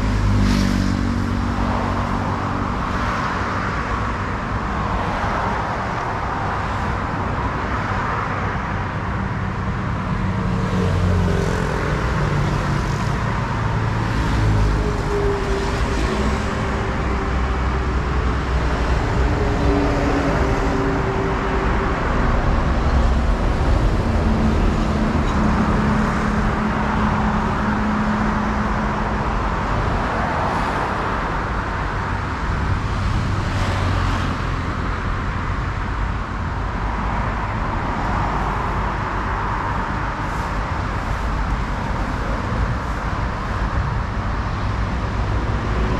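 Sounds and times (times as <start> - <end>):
passing vehicle engines: 0.0 - 45.9
tyre and road noise: 0.0 - 45.9.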